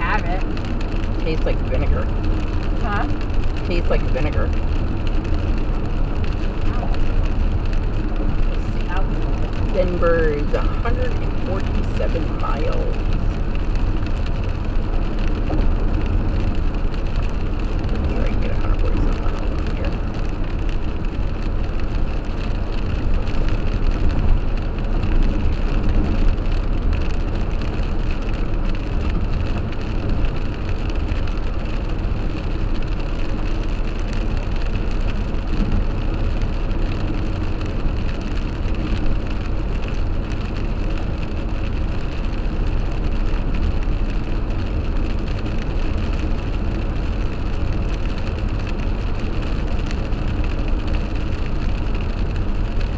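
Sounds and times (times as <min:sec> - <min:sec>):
car road and engine noise: 0:00.0 - 0:52.9
rain spattering on windshield: 0:00.0 - 0:52.9
tyres hissing on wet road: 0:00.0 - 0:52.9.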